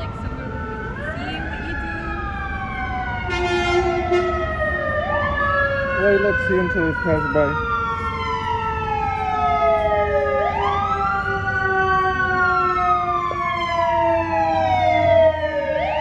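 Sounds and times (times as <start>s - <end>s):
emergency vehicle siren wailing: 0.0s - 16.0s
low traffic rumble: 0.0s - 16.0s.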